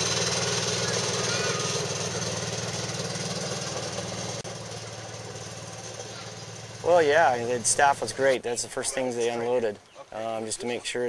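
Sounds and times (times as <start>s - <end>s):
utility vehicle engine chugging: 0.0s - 11.0s.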